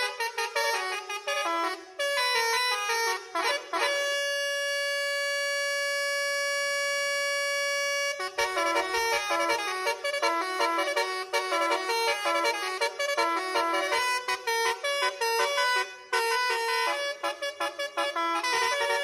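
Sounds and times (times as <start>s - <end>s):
bus air horn playing a tune: 0.0s - 19.0s.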